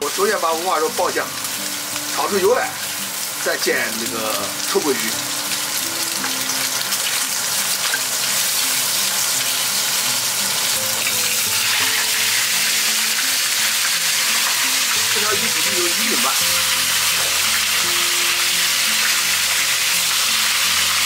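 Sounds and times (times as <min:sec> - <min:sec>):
meat sizzling in a wok: 0:00.0 - 0:21.0.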